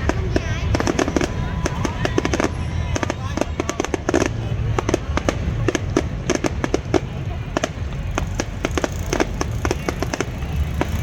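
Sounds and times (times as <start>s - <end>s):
fireworks bangs and crackles: 0.0s - 11.0s
steady low rumble: 0.0s - 11.0s.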